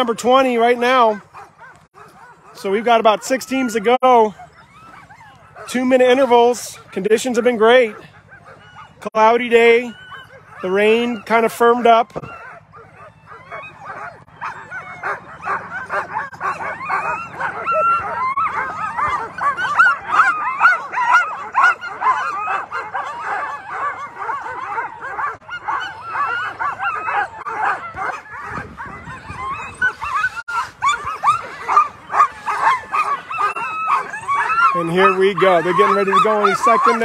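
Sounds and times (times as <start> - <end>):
dogs barking yipping and whining: 0.0 - 37.0.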